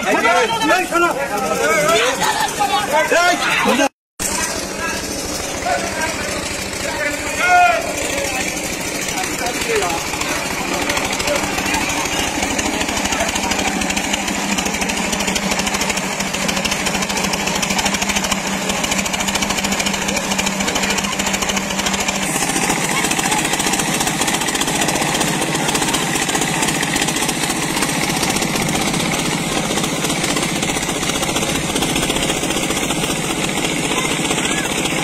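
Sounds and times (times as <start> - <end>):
water pump engine thumping: 0.0 - 35.0
water gushing from pipe: 4.2 - 35.0.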